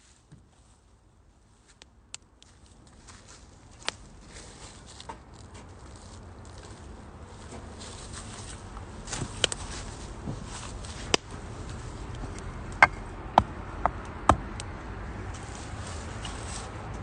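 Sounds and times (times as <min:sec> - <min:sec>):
firewood crackling: 0:01.4 - 0:17.0.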